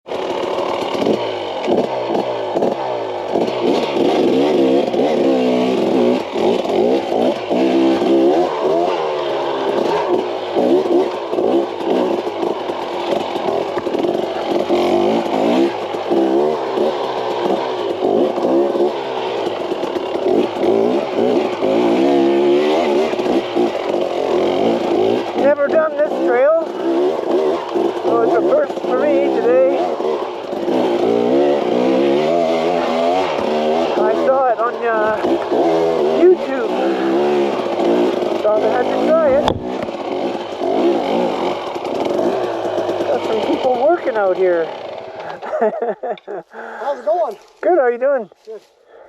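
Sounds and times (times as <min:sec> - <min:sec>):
dirt bike clatter: 0:00.1 - 0:46.3
dirt bike engine revving: 0:00.1 - 0:48.0.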